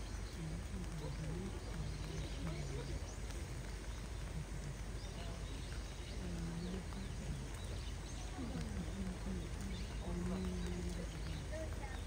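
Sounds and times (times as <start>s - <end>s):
faint human voices: 0.0s - 12.0s
outdoor background noise: 0.0s - 12.0s.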